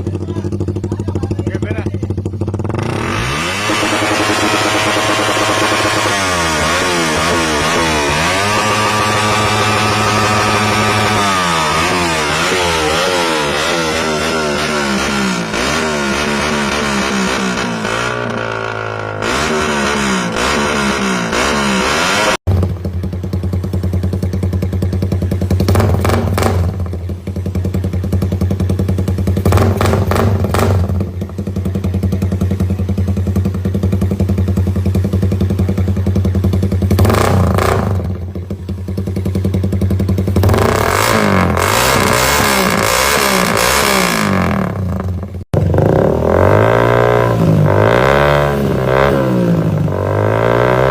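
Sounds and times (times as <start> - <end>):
motorcycle idling: 0.0 - 50.9
motorcycle revving: 0.0 - 50.9.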